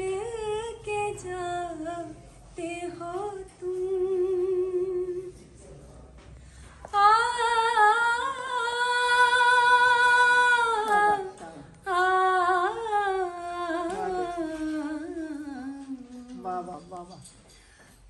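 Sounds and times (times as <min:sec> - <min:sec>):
woman singing unaccompanied: 0:00.0 - 0:05.4, 0:06.9 - 0:16.8.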